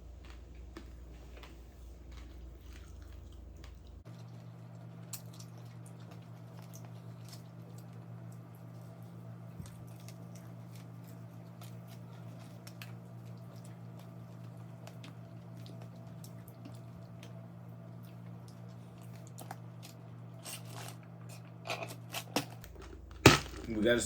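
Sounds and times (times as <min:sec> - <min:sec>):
person chewing food: 0:00.0 - 0:23.6
steady low hum: 0:00.0 - 0:24.0.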